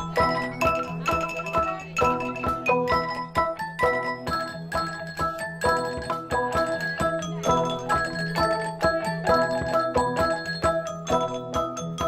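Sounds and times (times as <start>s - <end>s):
mallet percussion music: 0.0s - 12.0s.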